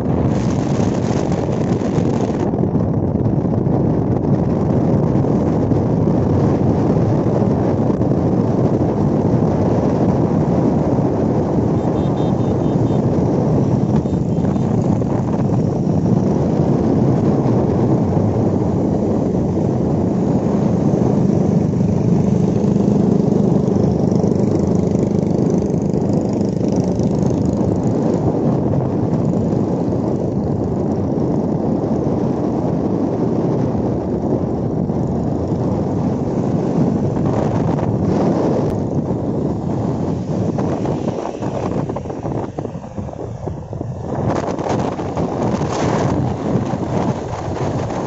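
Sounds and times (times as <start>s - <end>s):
motorcycle engine hum: 0.0s - 48.0s
wind rushing over microphone: 0.0s - 48.0s.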